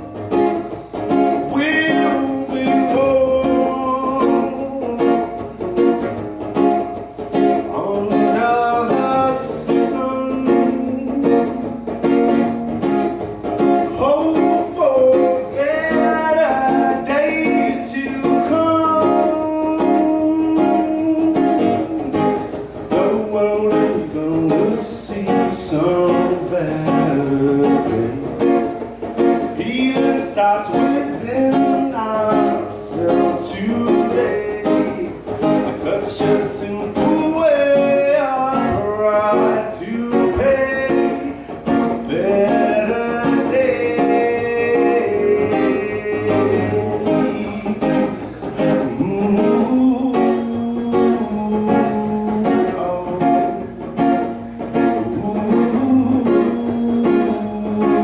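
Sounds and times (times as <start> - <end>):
acoustic guitar strumming: 0.0 - 58.0
instrumental melody line: 0.0 - 58.0.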